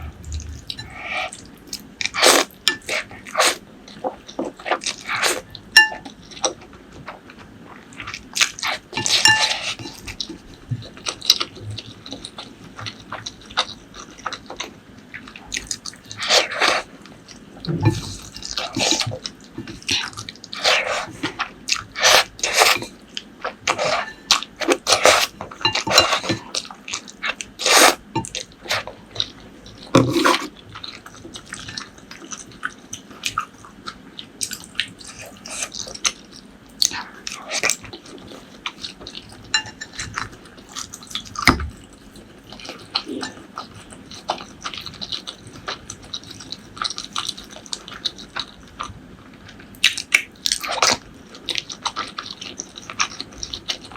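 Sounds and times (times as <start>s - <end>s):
wet chewing and smacking: 0.0s - 53.9s.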